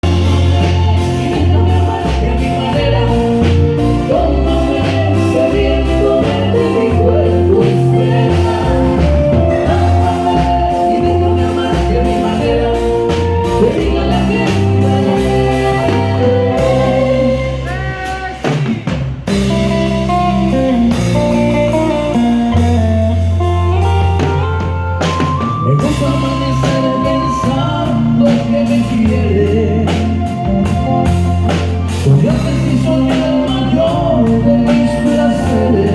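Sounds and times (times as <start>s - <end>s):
live band playing: 0.0s - 35.9s.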